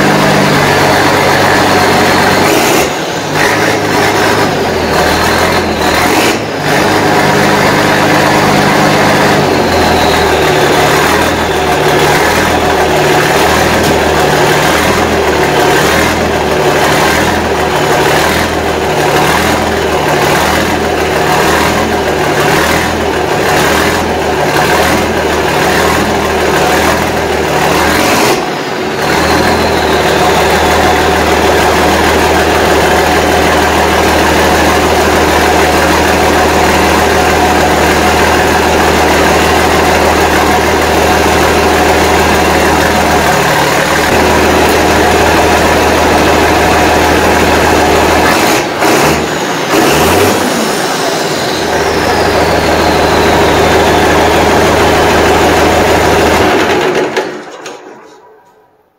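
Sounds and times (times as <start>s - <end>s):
diesel engine idling: 0.0s - 58.7s.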